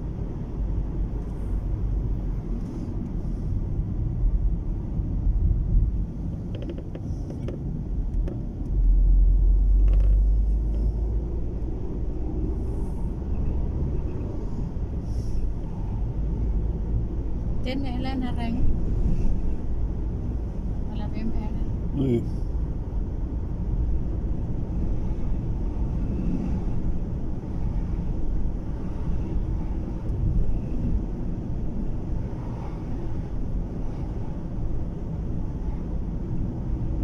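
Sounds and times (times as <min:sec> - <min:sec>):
car cabin road and wind rumble: 0:00.0 - 0:37.0.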